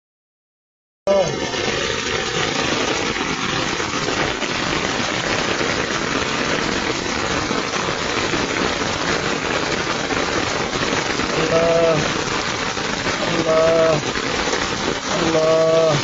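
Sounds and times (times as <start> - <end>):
heavy rain on water: 1.1 - 16.0.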